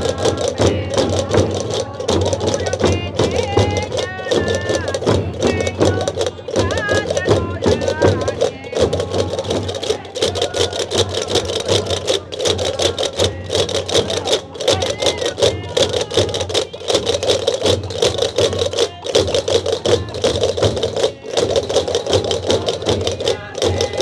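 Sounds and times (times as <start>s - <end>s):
frame drums beating: 0.0s - 24.0s.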